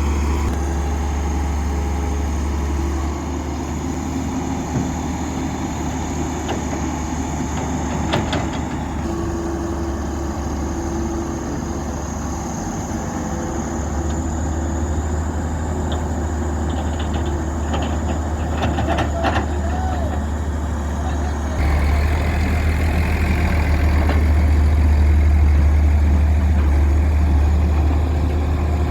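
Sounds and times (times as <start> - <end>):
diesel machinery engine droning: 0.0 - 28.9.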